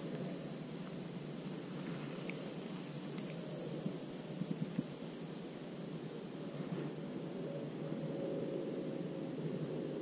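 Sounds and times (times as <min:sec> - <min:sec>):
insect buzz: 0:00.0 - 0:10.0.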